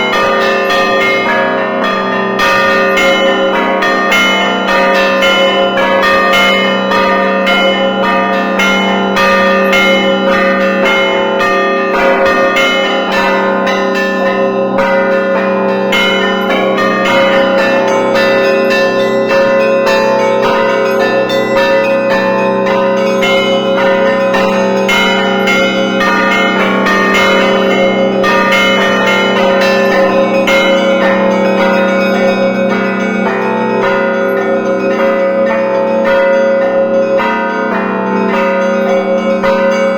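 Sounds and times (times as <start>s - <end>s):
large deep bells ringing: 0.0s - 39.9s
small bells striking: 0.0s - 39.9s.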